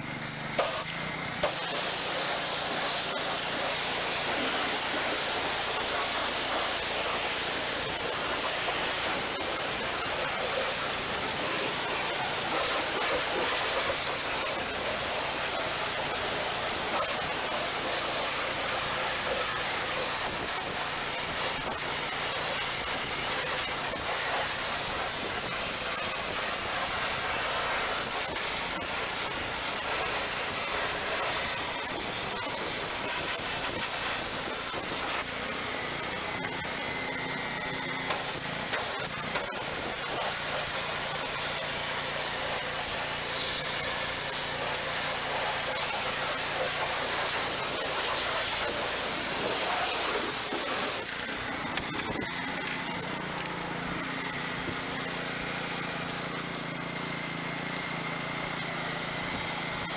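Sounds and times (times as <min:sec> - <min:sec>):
spray nozzle hissing: 0:00.6 - 0:59.9.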